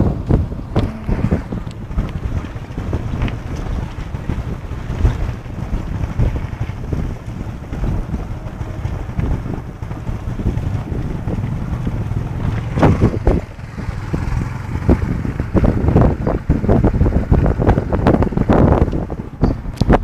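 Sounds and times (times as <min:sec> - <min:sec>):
wind buffeting microphone: 0:00.0 - 0:20.0
motorcycle engine: 0:00.1 - 0:20.0.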